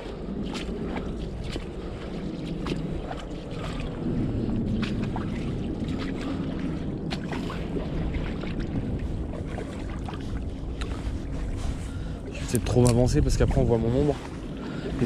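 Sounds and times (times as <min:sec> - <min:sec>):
waves lapping on stony shore: 0:00.0 - 0:15.0
wind buffeting microphone: 0:00.0 - 0:15.0.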